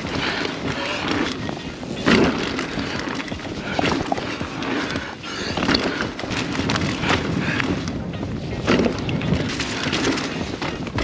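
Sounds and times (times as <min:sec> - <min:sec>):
bike rattling over bumps: 0:00.0 - 0:11.0
bike tyres on dirt trail: 0:00.0 - 0:11.0.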